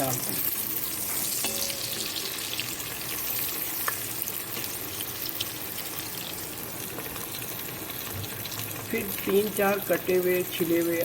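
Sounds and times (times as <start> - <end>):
garlic and onion sizzling in butter: 0.0 - 11.0.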